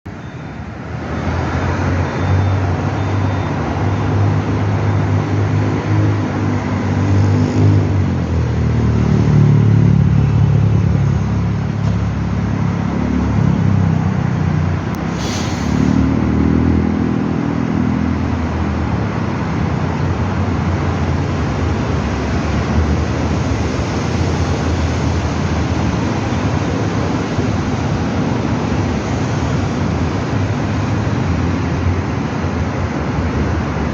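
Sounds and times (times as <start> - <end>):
vehicle engine hum: 0.1 - 33.9.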